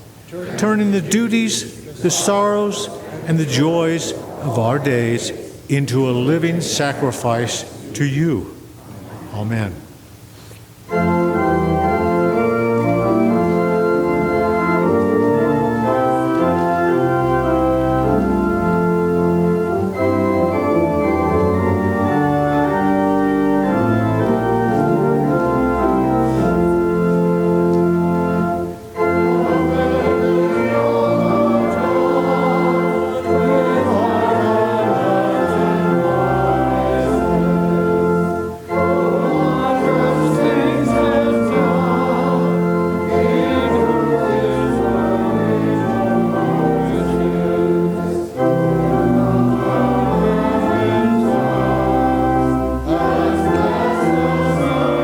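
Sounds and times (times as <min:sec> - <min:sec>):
church organ playing a hymn: 0:00.0 - 0:55.0
voices singing: 0:00.1 - 0:10.2, 0:10.9 - 0:55.0.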